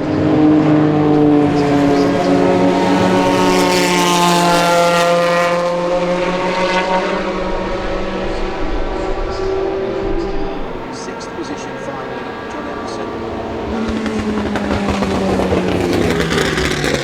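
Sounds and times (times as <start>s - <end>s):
race car engine passing by: 0.0s - 17.0s.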